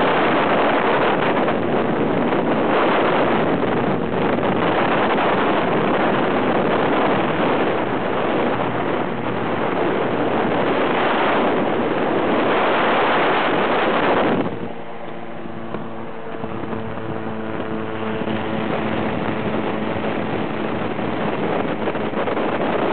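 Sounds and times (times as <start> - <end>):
aircraft engine running: 0.0 - 22.9
wind rushing over microphone: 0.0 - 22.9.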